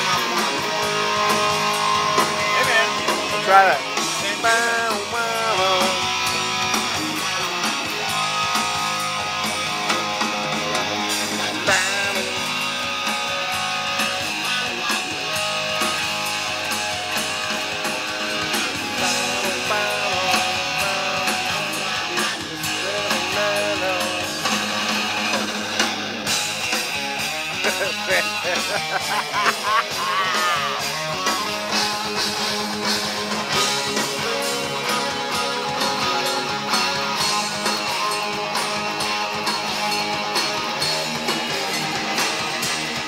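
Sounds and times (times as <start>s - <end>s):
electric guitar lead: 0.0s - 43.0s
rock backing track: 0.0s - 43.0s.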